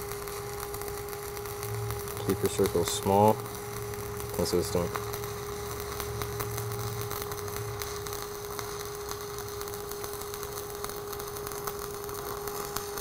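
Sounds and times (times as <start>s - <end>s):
steady hum: 0.0s - 13.0s
welding arc crackling: 0.0s - 13.0s.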